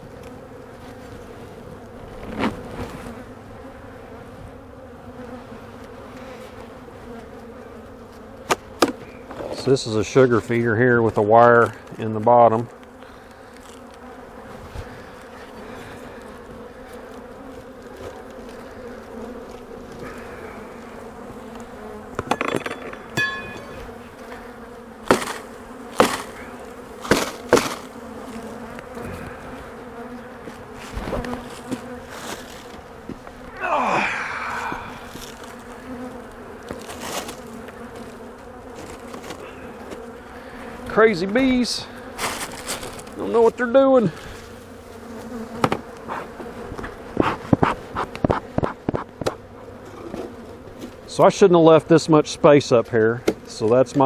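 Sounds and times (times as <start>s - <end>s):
bee buzzing close by: 0.0s - 54.0s
bee colony humming: 0.0s - 54.0s.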